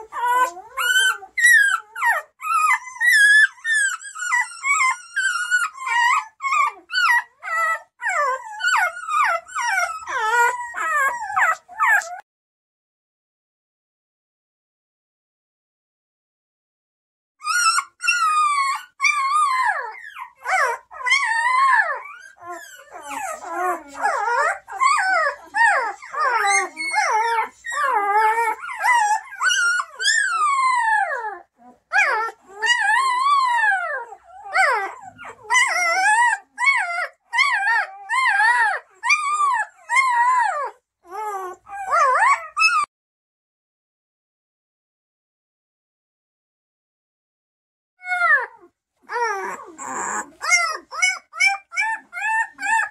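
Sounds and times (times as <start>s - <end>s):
puppy crying: 0.0s - 12.2s, 17.4s - 42.9s, 48.0s - 52.9s.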